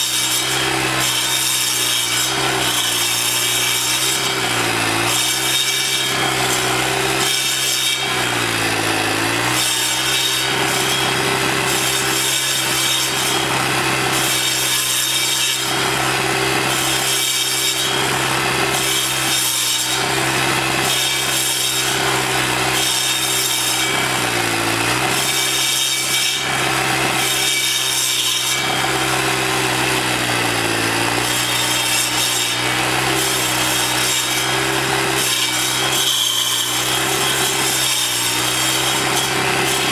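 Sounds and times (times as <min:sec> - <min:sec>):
blade grinding into stump: 0:00.0 - 0:39.9.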